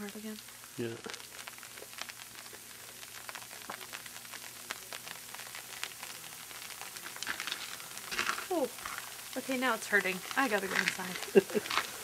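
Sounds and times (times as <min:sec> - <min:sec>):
freezing rain hissing: 0:00.0 - 0:12.0
rain ticking on snow and truck: 0:00.0 - 0:12.0.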